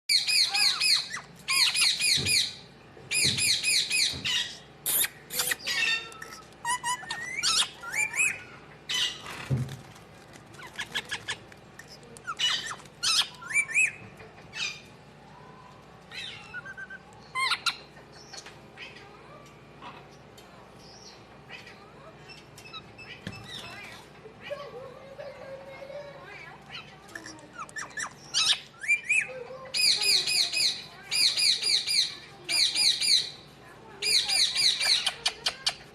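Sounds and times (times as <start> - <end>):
birds chirping and calling: 0.1 - 35.9.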